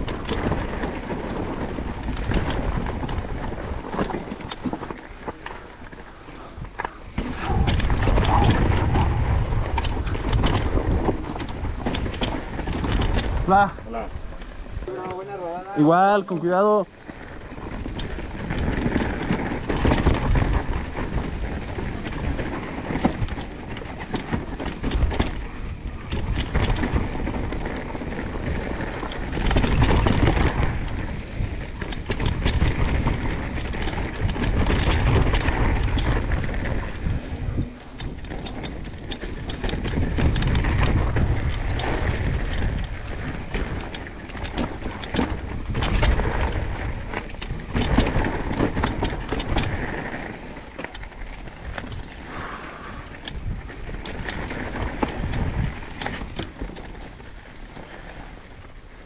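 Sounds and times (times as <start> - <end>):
bike rattles and knocks: 0.0 - 59.0
tyres rumbling over dirt: 0.0 - 59.0.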